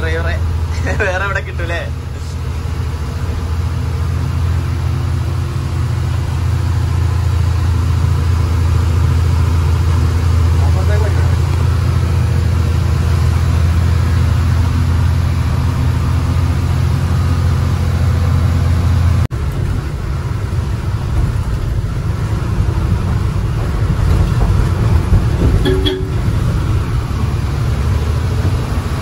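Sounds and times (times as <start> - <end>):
lorry engine drone: 0.0 - 29.0.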